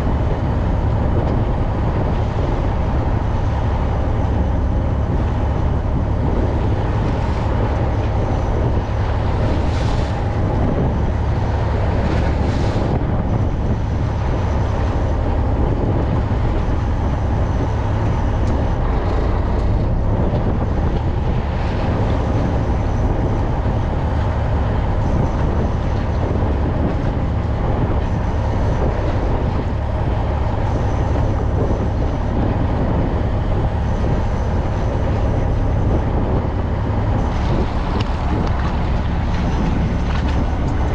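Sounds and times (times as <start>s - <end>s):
boat engine rumbling: 0.0s - 40.9s
water wash: 0.0s - 40.9s.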